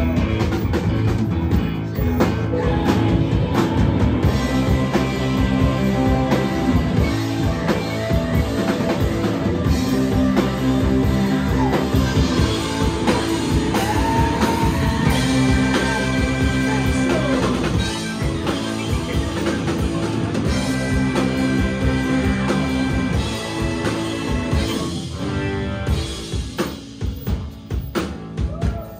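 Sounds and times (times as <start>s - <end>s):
drum kit: 0.0s - 28.9s
electric guitars: 0.0s - 28.9s.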